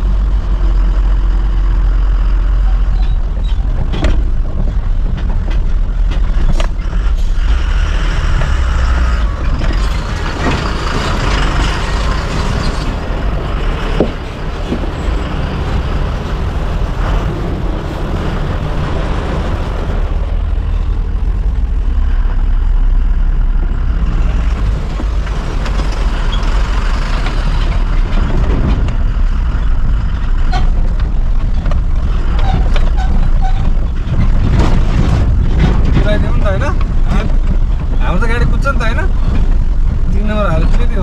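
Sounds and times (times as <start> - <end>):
cab rattling: 0.0 - 41.0
diesel truck engine rumble: 0.0 - 41.0.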